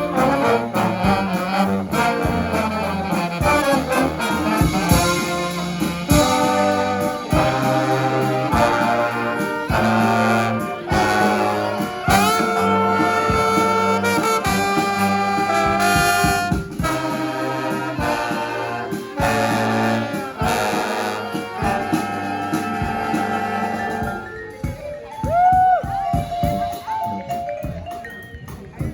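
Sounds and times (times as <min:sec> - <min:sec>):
brass band playing: 0:00.0 - 0:28.0
drums: 0:00.0 - 0:28.9.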